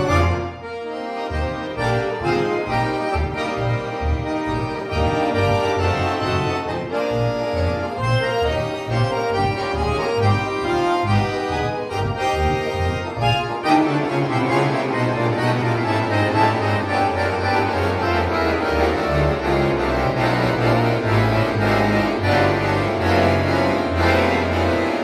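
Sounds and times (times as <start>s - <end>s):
accordions playing chords: 0.0s - 25.0s
detached bass line: 0.0s - 25.0s.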